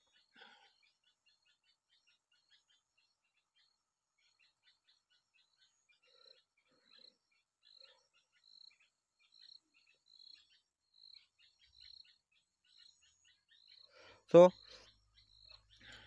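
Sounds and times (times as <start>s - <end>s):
faint high-pitched chirps: 0.0s - 16.0s.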